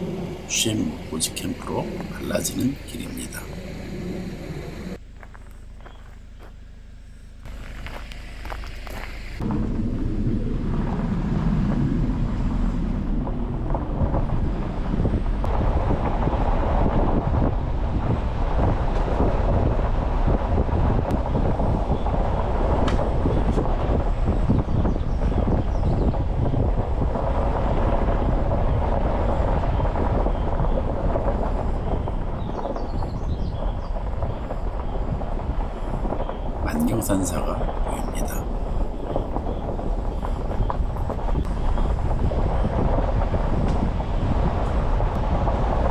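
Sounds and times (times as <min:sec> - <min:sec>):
wind buffeting microphone: 0:00.0 - 0:06.6, 0:07.4 - 0:45.9
engine and tyres rumbling: 0:00.0 - 0:45.9.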